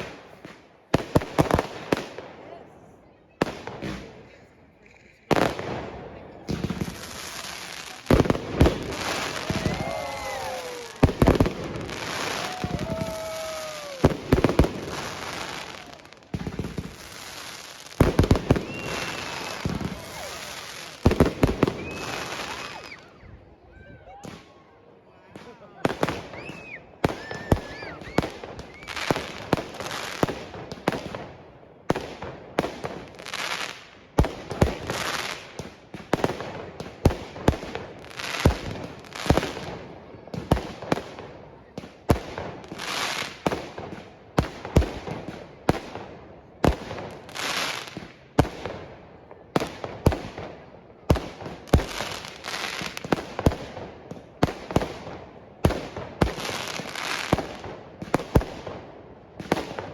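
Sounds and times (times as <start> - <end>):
fireworks crackling and hiss: 0.0 - 23.2, 25.3 - 59.9
fireworks bangs: 3.4 - 4.4, 5.2 - 23.1, 25.3 - 59.9.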